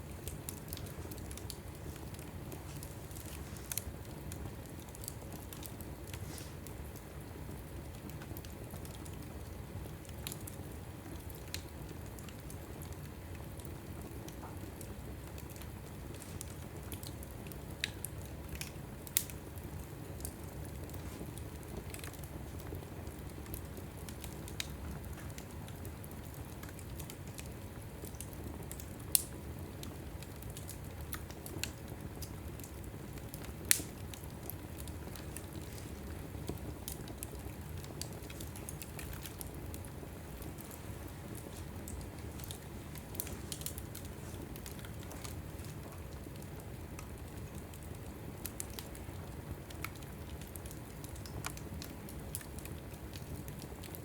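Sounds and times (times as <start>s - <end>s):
low rush of flame: 0.0s - 10.4s, 14.1s - 54.0s
fire crackling and popping: 0.0s - 54.0s.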